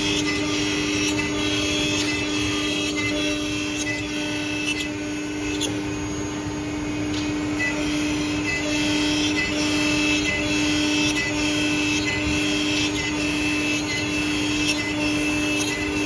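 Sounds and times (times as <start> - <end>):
machine humming and whirring: 0.0 - 16.0.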